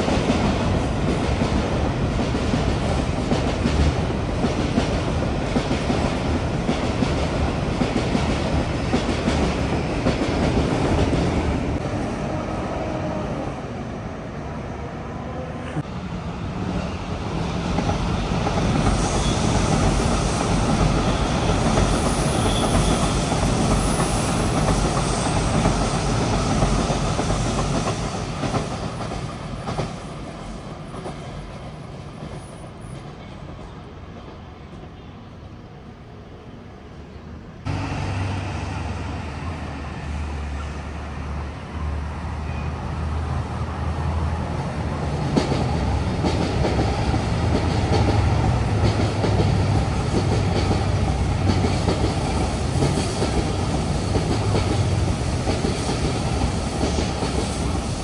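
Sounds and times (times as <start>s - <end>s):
train running with low hum: 0.0s - 58.0s
train wheels rumbling on track: 0.0s - 58.0s.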